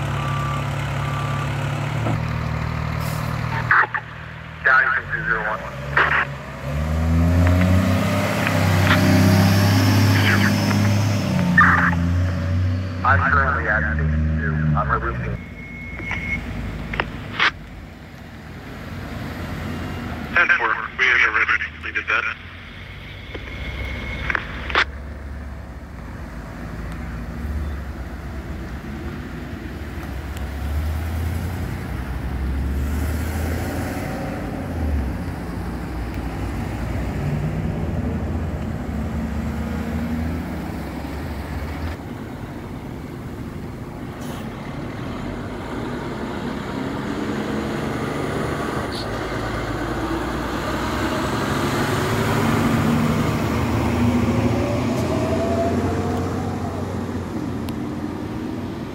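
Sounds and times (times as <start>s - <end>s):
emergency vehicles driving past: 0.0s - 58.9s
fire engine approaching: 0.0s - 58.9s.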